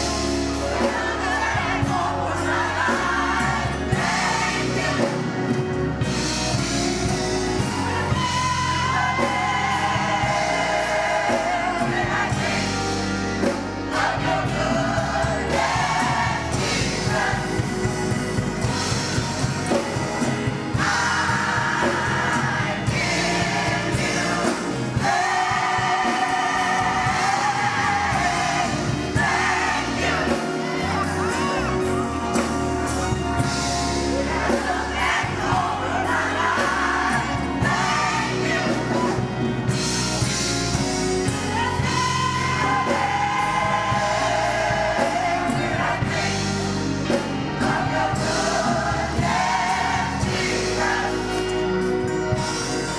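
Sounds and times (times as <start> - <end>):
gospel choir singing: 0.0 - 52.9
instrumental accompaniment: 0.0 - 52.9.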